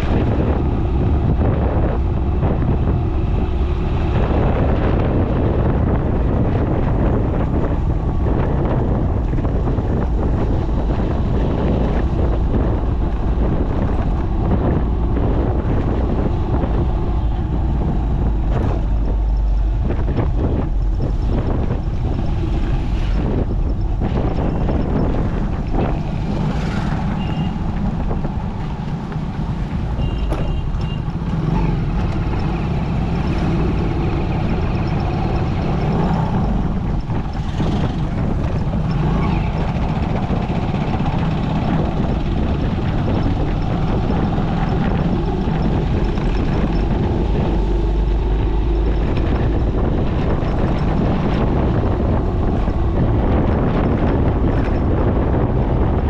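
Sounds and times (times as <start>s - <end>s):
motorcycle riding: 0.0s - 56.0s
wind on microphone: 0.0s - 56.0s.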